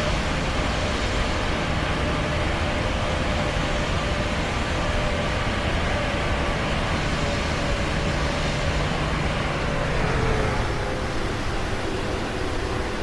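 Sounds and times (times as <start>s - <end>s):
airplane in flight: 0.0s - 13.0s.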